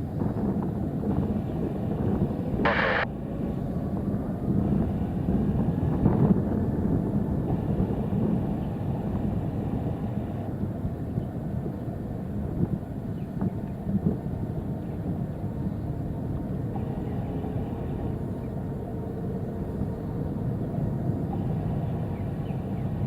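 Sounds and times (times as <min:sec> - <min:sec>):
jet engines at takeoff power: 0:00.0 - 0:23.0.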